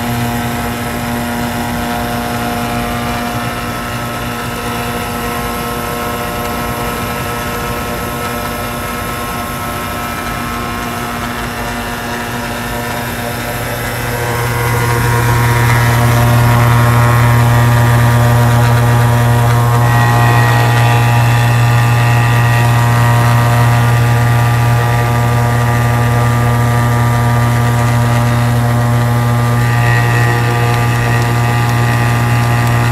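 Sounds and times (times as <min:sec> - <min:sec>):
grinding machine droning: 0:00.0 - 0:32.9.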